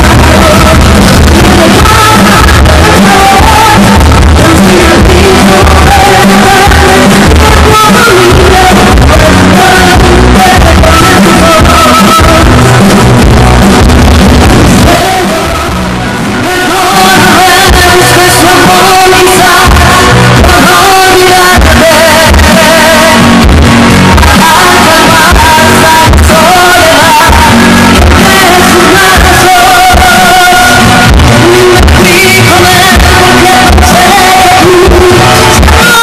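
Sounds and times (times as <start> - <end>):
woman singing into microphone: 0.0 - 13.9, 14.5 - 36.0
live band playing: 0.0 - 36.0.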